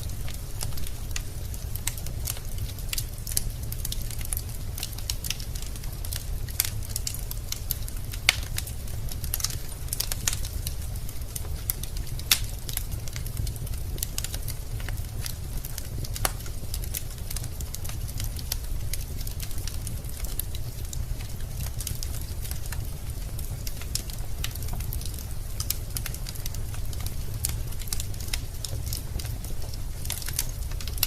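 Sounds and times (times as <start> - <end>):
logs crackling: 0.0 - 31.0
low fire rumble: 0.0 - 31.0.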